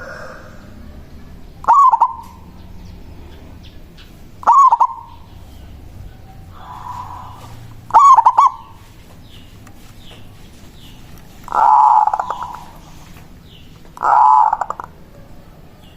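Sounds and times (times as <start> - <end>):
dove calling with rolling notes: 0.0 - 15.9.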